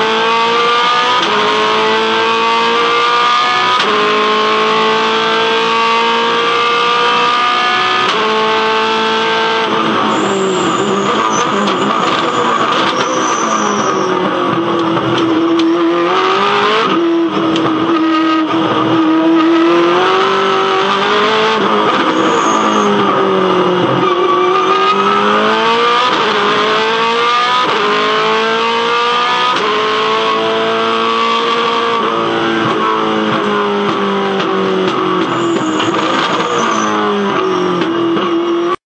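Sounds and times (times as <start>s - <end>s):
race car engine revving through gears: 0.0s - 38.8s.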